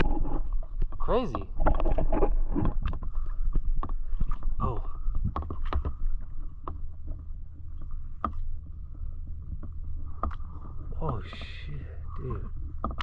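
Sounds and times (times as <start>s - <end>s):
rumble of water and wind: 0.0s - 13.0s.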